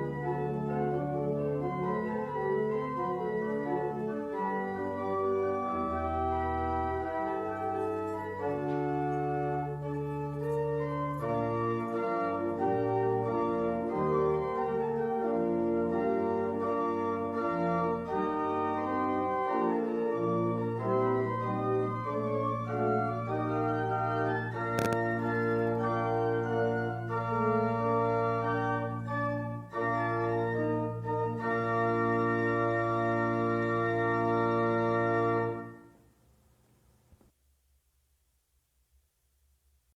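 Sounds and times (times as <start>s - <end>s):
organ playing held chords: 0.0s - 35.9s.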